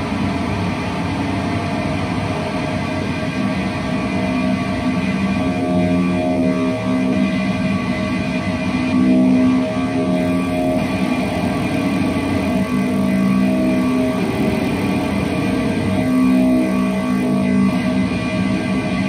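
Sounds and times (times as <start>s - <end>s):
processed electric guitar drone: 0.0s - 19.0s.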